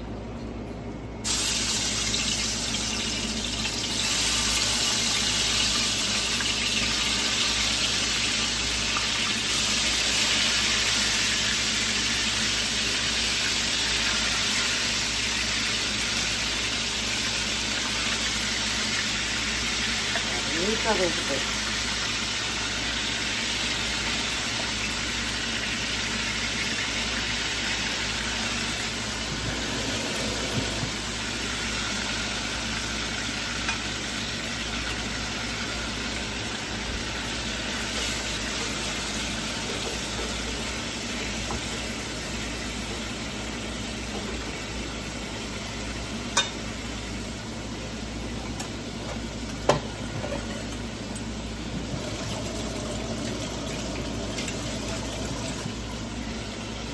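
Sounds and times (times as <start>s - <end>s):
beef sizzling in frying pan: 1.2s - 56.9s.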